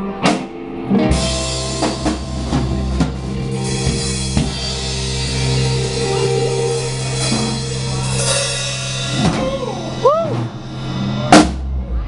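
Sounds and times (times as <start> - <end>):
electric guitar: 0.0 - 11.4
bass notes: 0.0 - 12.0
drum hits: 1.1 - 12.0
cymbal crash: 1.2 - 12.0.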